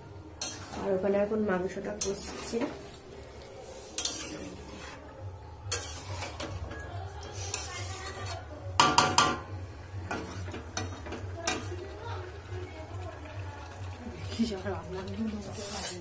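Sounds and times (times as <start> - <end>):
metal cookware clanking: 0.4 - 3.0, 3.8 - 16.0.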